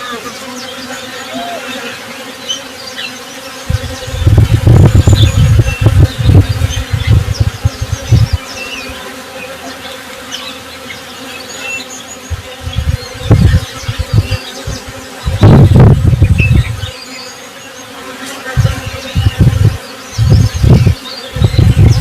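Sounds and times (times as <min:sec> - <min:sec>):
honey bees buzzing: 0:00.0 - 0:22.0
small birds chirping: 0:00.0 - 0:22.0.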